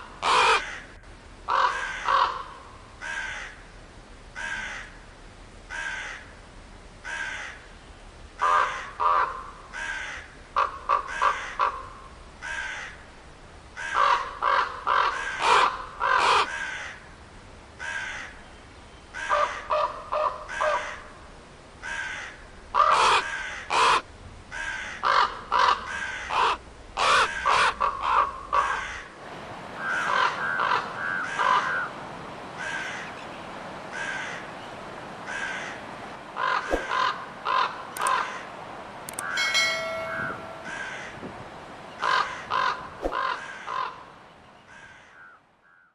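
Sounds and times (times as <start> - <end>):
crows cawing: 0.2 - 0.9, 1.5 - 3.6, 4.4 - 5.0, 5.7 - 6.3, 7.0 - 7.6, 8.4 - 13.0, 13.8 - 17.1, 17.8 - 18.4, 19.2 - 21.1, 21.8 - 38.6, 39.2 - 45.9.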